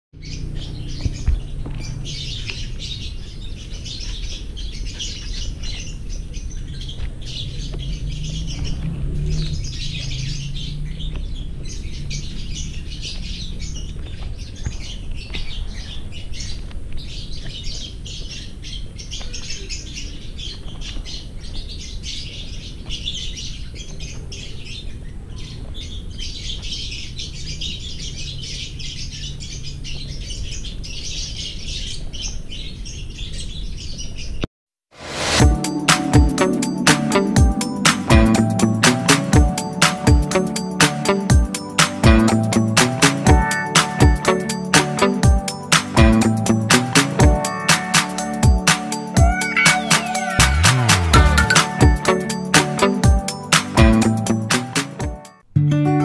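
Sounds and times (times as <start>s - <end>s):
birds chirping: 0.2s - 34.4s, 35.1s - 55.4s.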